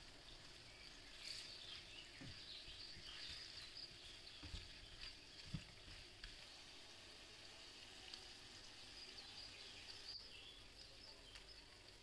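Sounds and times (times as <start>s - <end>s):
livers sizzling in a pan: 0.0s - 12.0s.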